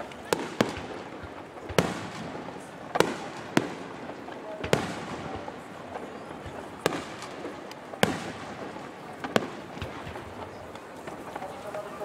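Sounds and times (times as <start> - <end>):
firework shells bursting: 0.0 - 11.5
small firework cracks: 0.0 - 12.0.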